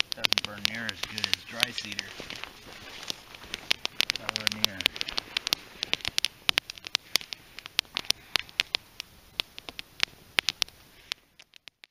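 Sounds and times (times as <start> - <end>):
faint fire hiss: 0.0 - 11.9
wood fire crackling and popping: 0.0 - 11.9.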